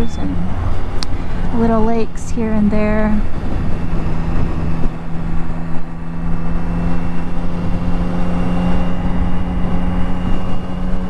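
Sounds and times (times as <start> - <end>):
motorcycle engine cruising: 0.0 - 11.0
wind rumble on microphone: 0.0 - 11.0.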